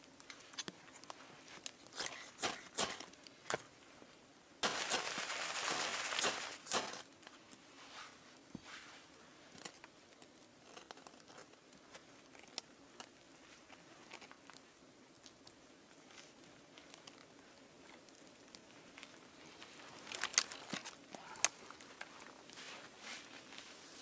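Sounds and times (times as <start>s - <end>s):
crinkling and rustling handling: 0.0s - 24.0s.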